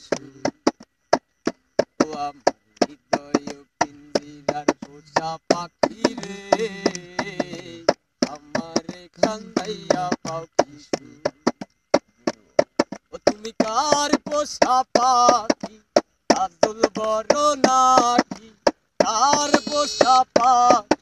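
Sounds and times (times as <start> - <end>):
group singing wordlessly: 0.0 - 0.7, 2.0 - 11.5, 13.2 - 21.0
sharp percussive taps: 0.0 - 21.0.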